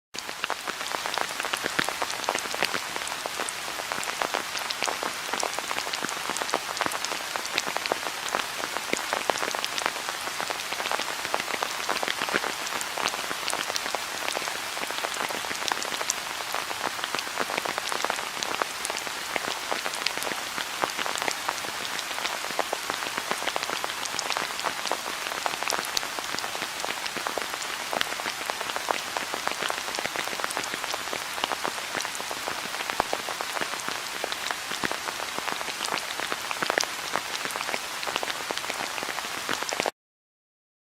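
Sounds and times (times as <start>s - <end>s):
rain pattering on hard surface: 0.2s - 39.9s.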